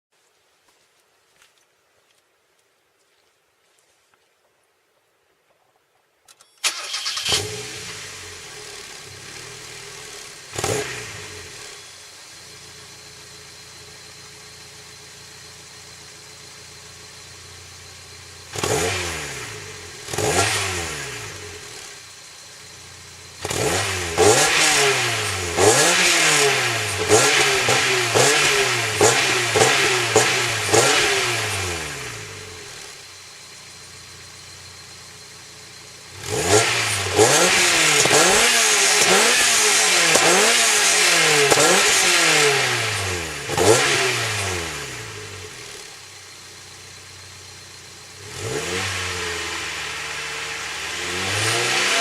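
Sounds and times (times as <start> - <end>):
car engine idling and revving: 6.6 - 52.0.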